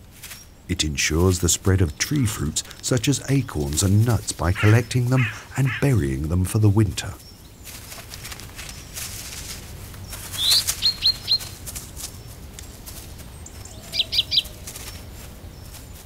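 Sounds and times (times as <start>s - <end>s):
dry leaves rustling: 0.0s - 16.0s.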